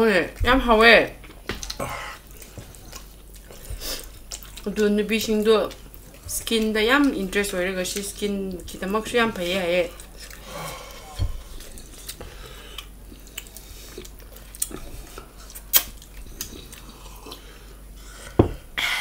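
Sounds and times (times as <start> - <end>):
chewing and smacking: 1.1 - 17.7.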